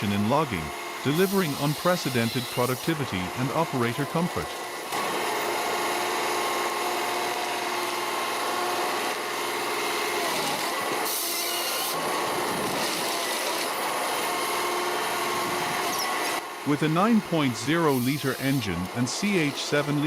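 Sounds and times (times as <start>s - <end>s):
engine and hydraulic drone: 0.0s - 20.0s.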